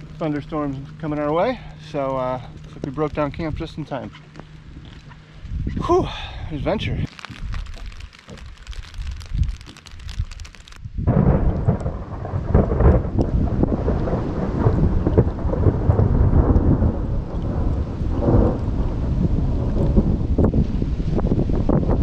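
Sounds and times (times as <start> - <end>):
low rumble in gusts: 0.0 - 22.0
rain on plastic bags: 0.0 - 22.0.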